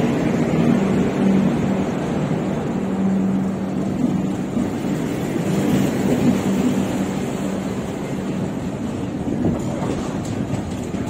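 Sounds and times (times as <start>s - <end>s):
clickety-clack of wheels: 0.0s - 11.0s
steel wheels rushing on rail: 0.0s - 11.0s.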